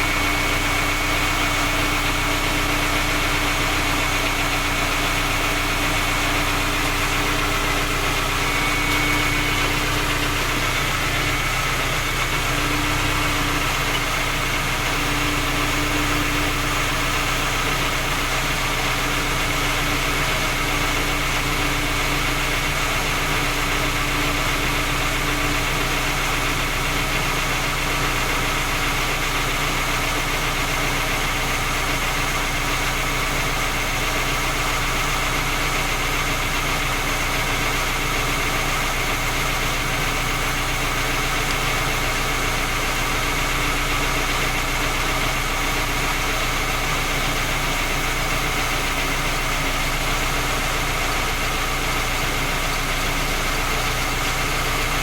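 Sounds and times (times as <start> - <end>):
car engine idling with knock: 0.0 - 55.0.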